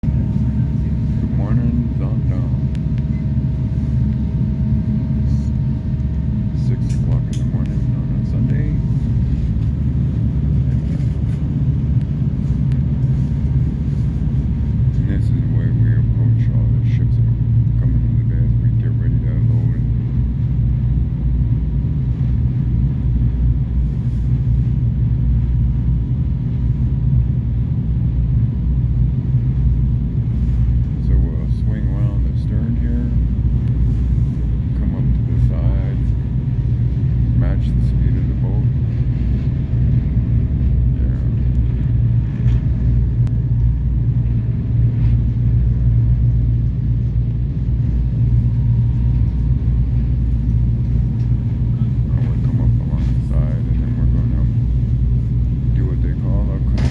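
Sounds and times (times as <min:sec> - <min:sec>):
boat engines rumbling: 0:00.0 - 0:56.9.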